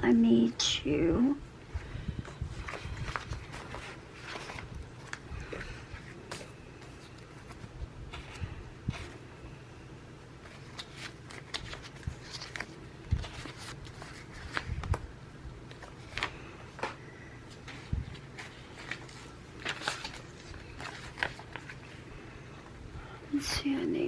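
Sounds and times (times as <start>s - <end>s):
paper rustling: 1.8s - 9.3s, 10.4s - 22.1s.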